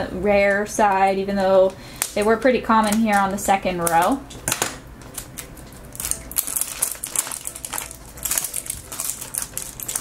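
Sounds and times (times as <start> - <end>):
plastic strip crinkling: 0.9 - 10.0.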